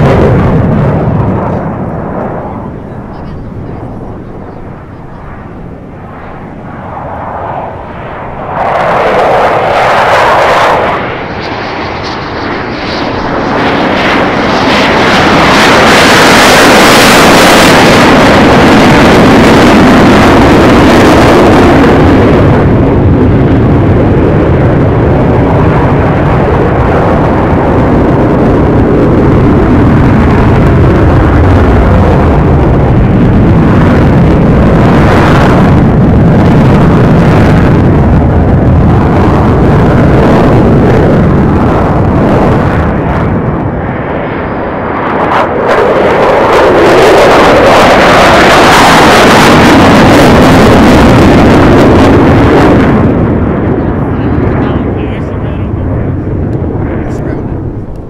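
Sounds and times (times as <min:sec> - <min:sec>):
fighter jet engine roar: 0:00.0 - 0:58.0.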